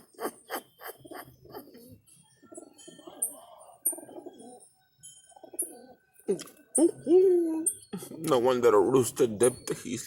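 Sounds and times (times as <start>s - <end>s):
pigeons cooing: 0.0s - 8.2s
small birds chirping: 0.0s - 10.0s.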